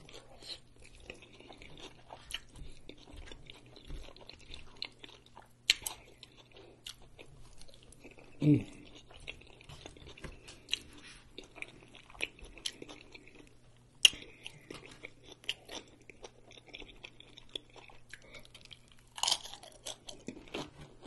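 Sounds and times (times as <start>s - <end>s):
chewing crunchy chips: 0.0s - 21.0s.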